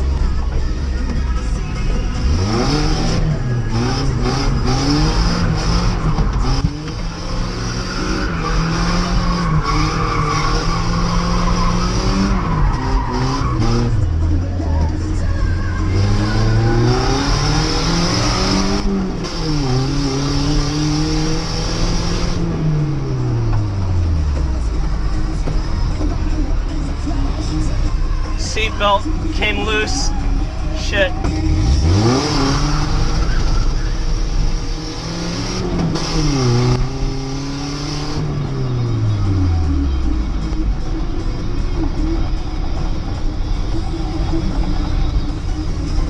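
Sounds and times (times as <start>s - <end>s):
pickup engine accelerating: 0.0s - 46.0s.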